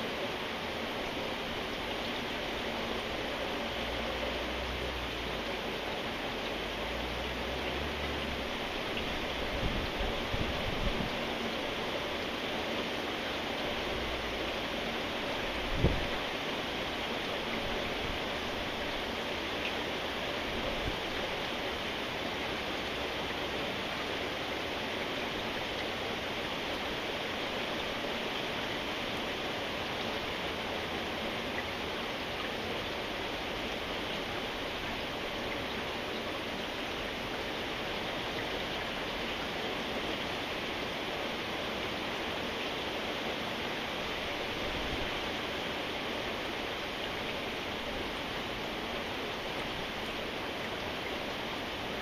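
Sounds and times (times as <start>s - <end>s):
steady rainfall hiss: 0.0s - 52.0s.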